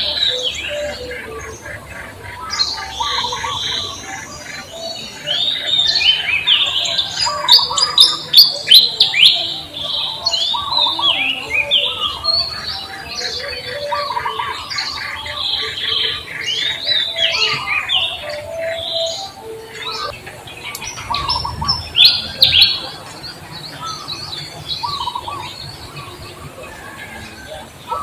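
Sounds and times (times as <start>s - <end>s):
sharp descending bird calls: 0.0s - 28.0s
songbirds chirping: 0.0s - 28.0s.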